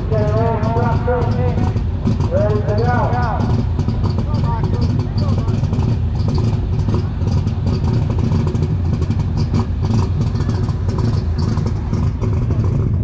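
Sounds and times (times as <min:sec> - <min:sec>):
tractor engine running hard: 0:00.0 - 0:13.0.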